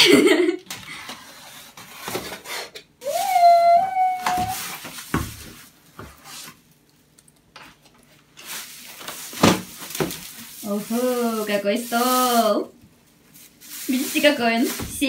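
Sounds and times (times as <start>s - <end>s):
plastic wrap rustling: 1.8s - 6.8s, 7.7s - 15.0s.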